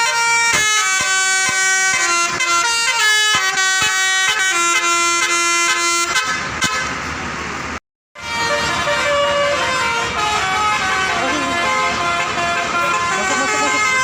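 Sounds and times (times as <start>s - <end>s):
multi-tone air horn tune: 0.0s - 7.0s, 8.2s - 14.0s.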